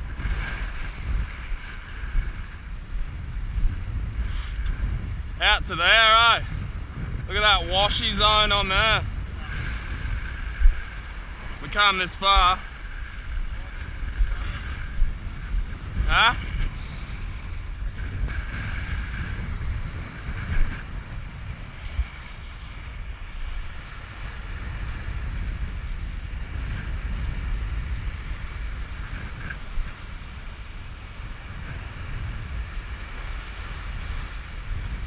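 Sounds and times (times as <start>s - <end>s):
waves and surf: 0.0s - 35.0s
wind buffeting microphone: 0.0s - 35.0s.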